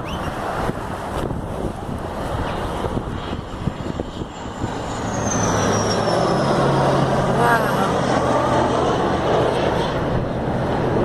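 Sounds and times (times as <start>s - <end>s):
high jet whine: 0.0s - 11.0s
jet flying overhead: 0.0s - 11.0s.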